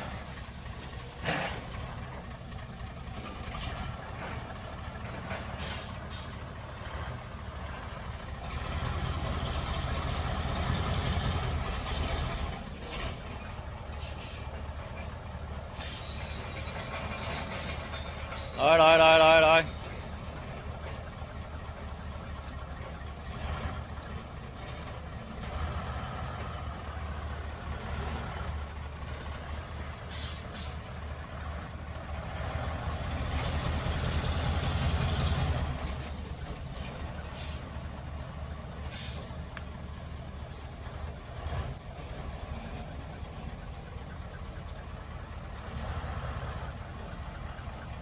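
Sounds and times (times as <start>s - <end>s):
truck diesel engine under load: 0.0s - 48.0s.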